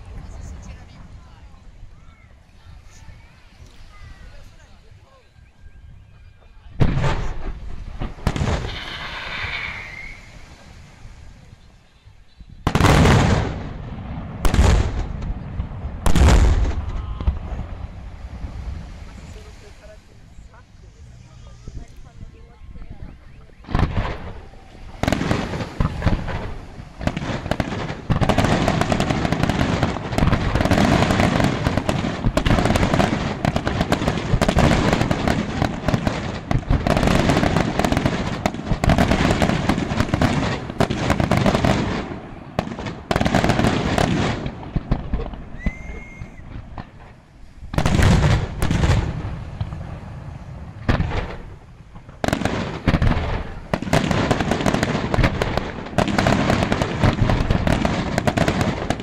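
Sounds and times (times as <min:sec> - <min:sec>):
fireworks bangs and crackle: 0:00.0 - 0:05.3, 0:06.0 - 0:59.0.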